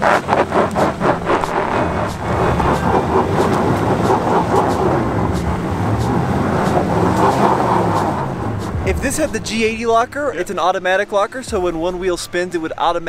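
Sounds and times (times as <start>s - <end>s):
suv engine under load: 0.0s - 10.5s
tyres on loose gravel: 0.0s - 10.6s.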